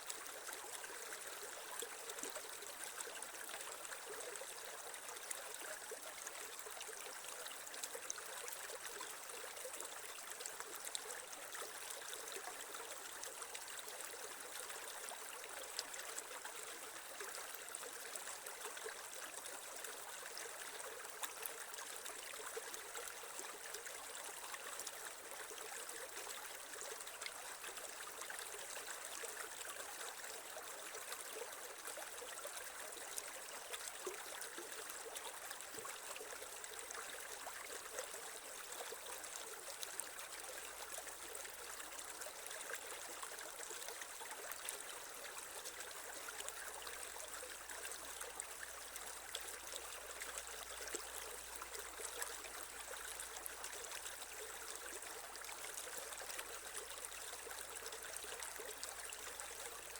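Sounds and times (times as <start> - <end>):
creek water trickling over stones: 0.0 - 59.9.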